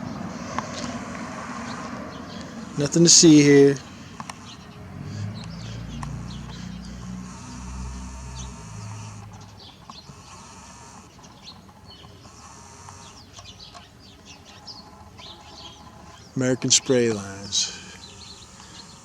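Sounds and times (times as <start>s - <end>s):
bird chirps: 1.6s - 19.0s.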